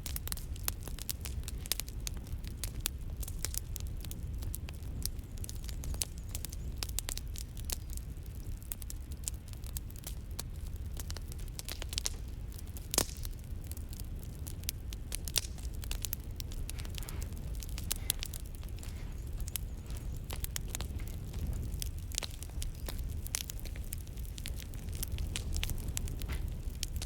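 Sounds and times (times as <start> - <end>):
campfire crackling and popping: 0.0 - 27.0
low steady fire rumble: 0.0 - 27.0.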